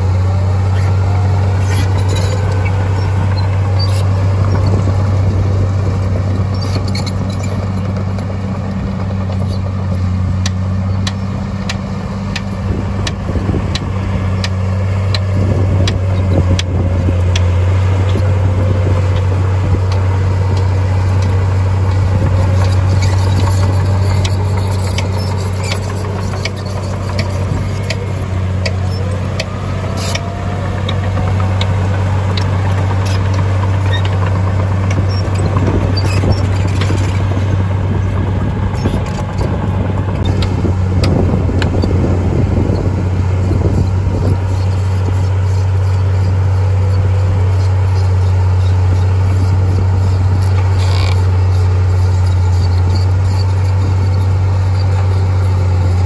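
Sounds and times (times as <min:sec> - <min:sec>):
diesel machinery humming: 0:00.0 - 0:56.0.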